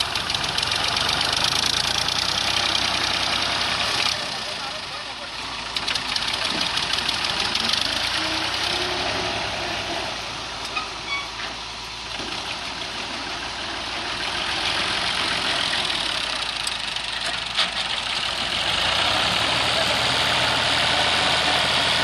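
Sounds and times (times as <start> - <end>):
heavy vehicle diesel engine: 0.0 - 22.0.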